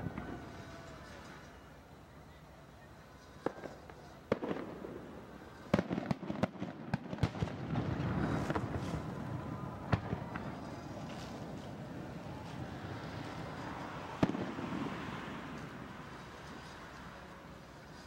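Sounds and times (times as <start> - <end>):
fireworks bangs: 0.0 - 1.8, 3.0 - 18.0
rumbling fireworks crackle: 0.0 - 18.0.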